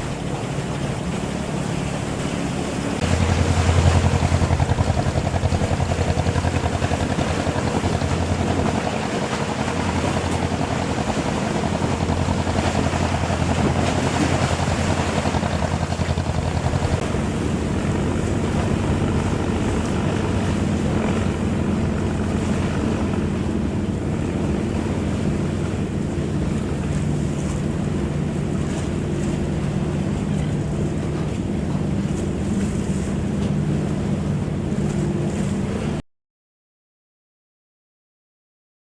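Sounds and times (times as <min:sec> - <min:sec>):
boat engine running: 0:00.0 - 0:36.0
water rushing along hull: 0:00.0 - 0:36.0.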